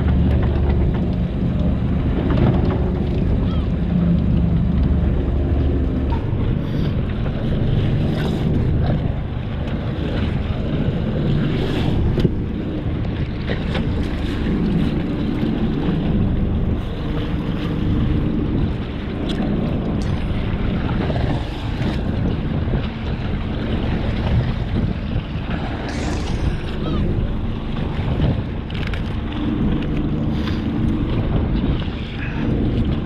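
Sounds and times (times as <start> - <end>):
boat engine running: 0.0 - 33.0
water washing against hull: 0.0 - 33.0
wind buffeting microphone: 0.0 - 33.0.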